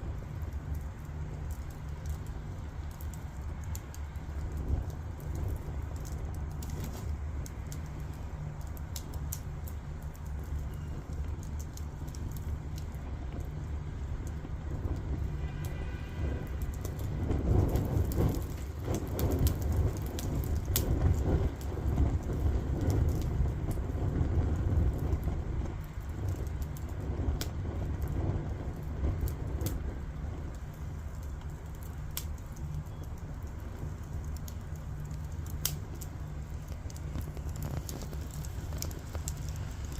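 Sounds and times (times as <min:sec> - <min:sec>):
fire low rumble: 0:00.0 - 0:39.9
firewood crackling and popping: 0:00.0 - 0:39.9.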